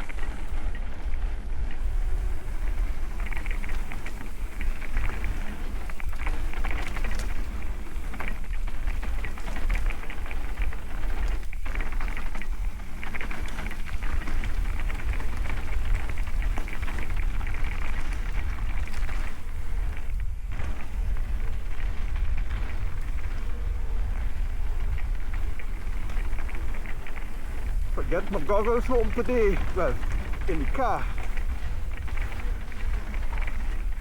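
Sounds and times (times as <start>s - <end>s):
bike rattling: 0.0s - 34.0s
tyres crackling over dirt and stones: 0.0s - 34.0s
wind rumble on microphone: 0.0s - 34.0s.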